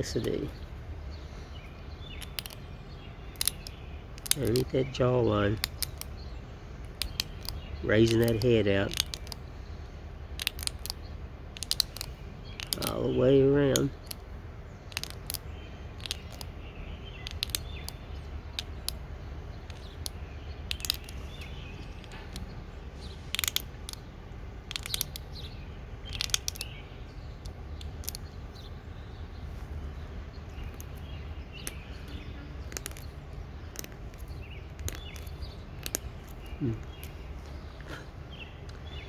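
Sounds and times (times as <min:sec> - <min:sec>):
birds chirping: 0:00.0 - 0:39.0
steady low rumble: 0:00.0 - 0:39.0.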